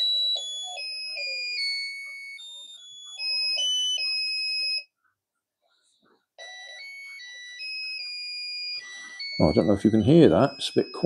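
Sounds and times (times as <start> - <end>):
electronic beeping tune on radio: 0.0 - 4.8, 6.4 - 11.0.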